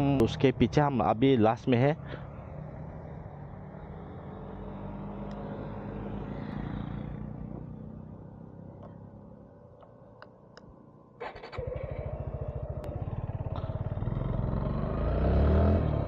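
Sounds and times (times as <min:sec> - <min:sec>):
motorcycle engine and road rumble: 0:00.0 - 0:16.0.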